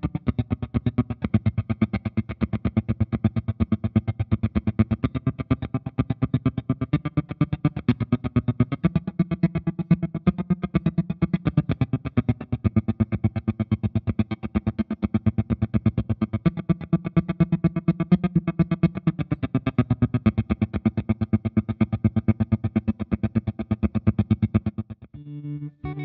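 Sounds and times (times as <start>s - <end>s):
electric guitar with tremolo: 0.0s - 26.0s.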